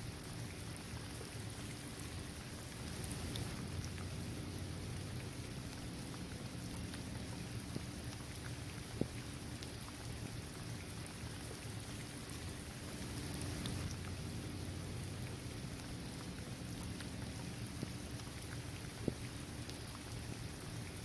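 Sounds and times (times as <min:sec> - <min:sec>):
steady rain on pavement: 0:00.0 - 0:21.0
sharp water drip: 0:01.4 - 0:21.0.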